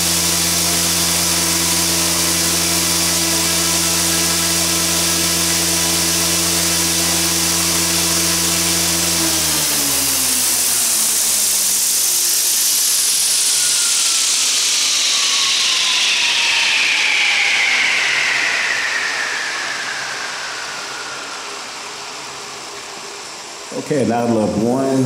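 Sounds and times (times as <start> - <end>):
rotor blades spinning down: 0.0 - 23.7
motor and gear whine: 0.0 - 24.9.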